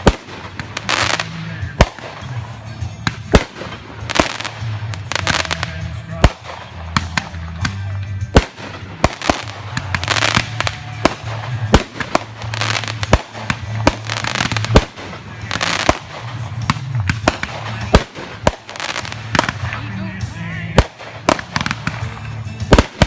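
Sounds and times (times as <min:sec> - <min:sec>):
firework bangs: 0:00.0 - 0:19.8, 0:20.7 - 0:23.0
crackling firework shells: 0:00.0 - 0:23.0.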